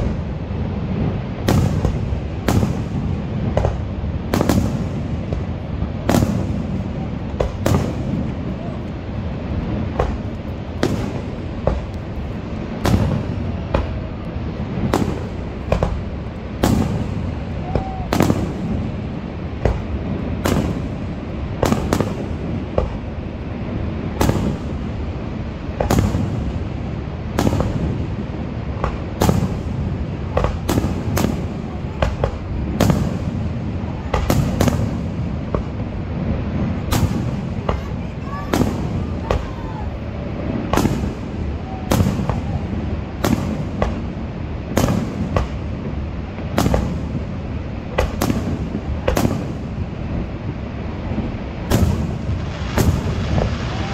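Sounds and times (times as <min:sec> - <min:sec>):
fireworks bursting with sharp bangs: 0:00.0 - 0:53.9.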